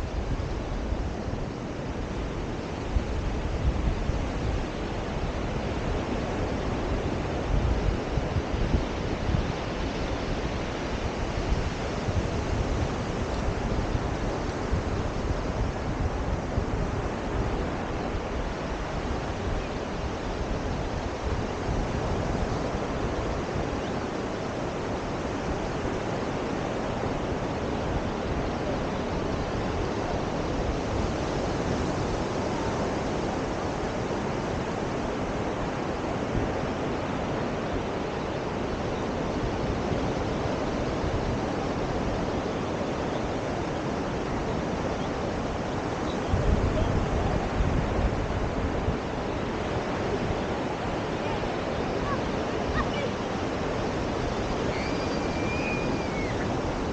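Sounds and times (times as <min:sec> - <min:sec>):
ocean surf on a beach: 0:00.0 - 0:56.9
wind on the microphone: 0:00.0 - 0:56.9.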